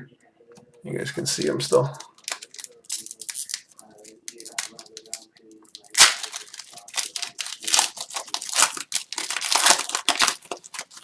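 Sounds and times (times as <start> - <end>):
foil wrapper tearing and crinkling: 1.9 - 11.0.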